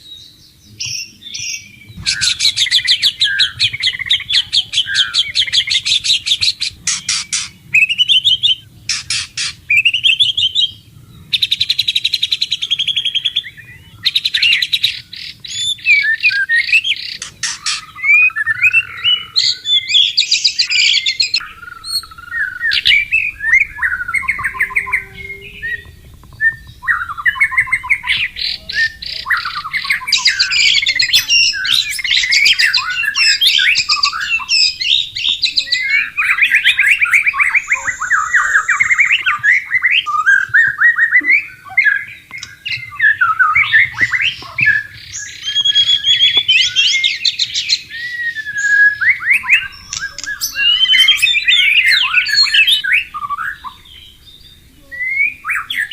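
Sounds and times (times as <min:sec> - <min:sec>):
bird singing whistled phrases: 0:00.0 - 0:55.9.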